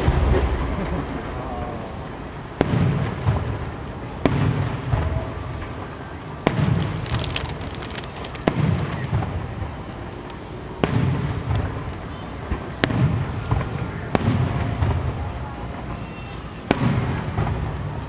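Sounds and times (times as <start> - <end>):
fireworks bangs: 0.0 - 18.0
fireworks crackling: 0.0 - 18.0
low rumbling echo: 0.0 - 18.0.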